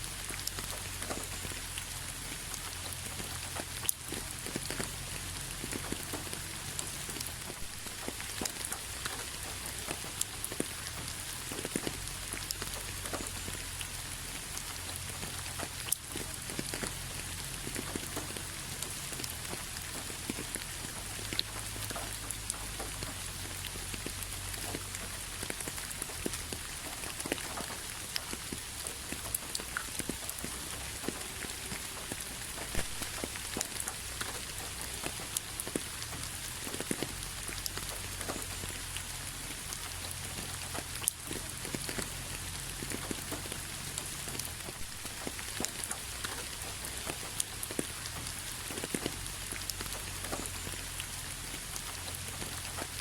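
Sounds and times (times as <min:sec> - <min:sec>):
rain on a hard surface: 0:00.0 - 0:53.0.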